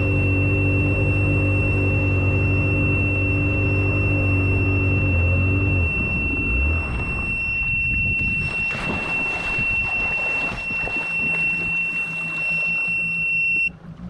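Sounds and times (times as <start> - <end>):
high-pitched warning buzzer: 0.0 - 13.7
engine and water rumble: 0.0 - 14.0.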